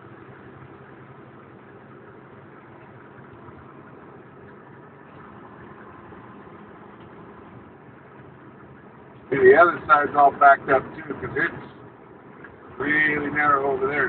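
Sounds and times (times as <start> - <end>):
diesel truck engine running: 0.0 - 14.0
road noise hum: 0.0 - 14.0.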